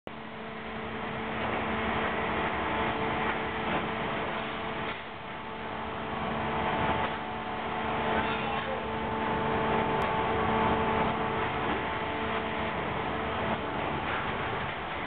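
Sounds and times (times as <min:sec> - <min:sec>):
machinery humming: 0:00.1 - 0:15.0.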